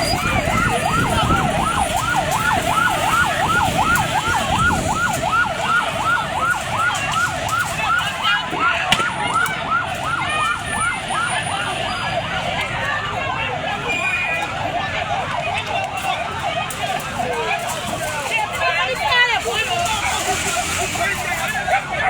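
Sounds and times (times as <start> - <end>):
crowd noise: 0.0 - 22.0
police siren yelping: 0.0 - 22.0.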